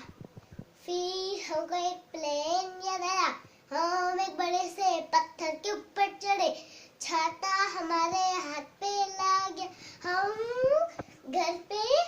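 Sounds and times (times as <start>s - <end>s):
child singing unaccompanied: 0.8s - 12.0s.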